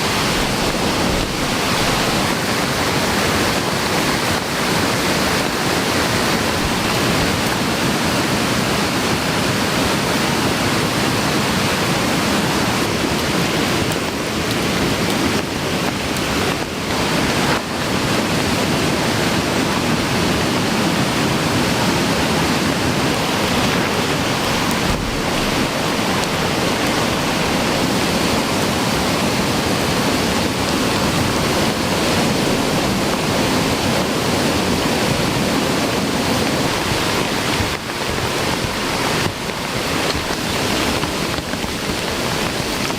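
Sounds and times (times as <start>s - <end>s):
heavy rain: 0.0s - 42.9s
swollen stream rushing: 0.0s - 42.9s.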